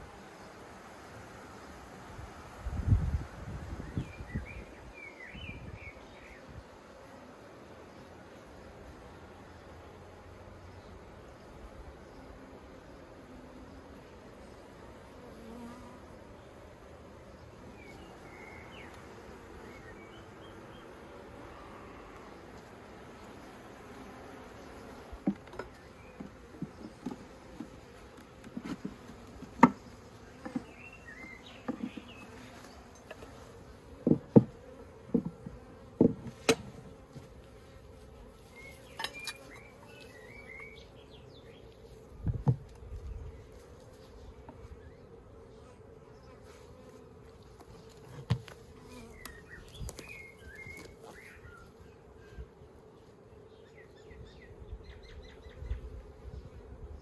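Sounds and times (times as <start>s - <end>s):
honeybees buzzing: 0.0s - 57.0s.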